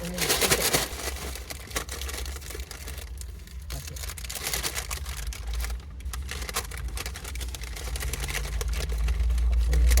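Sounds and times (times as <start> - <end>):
fries shaken in paper bag: 0.0 - 10.0.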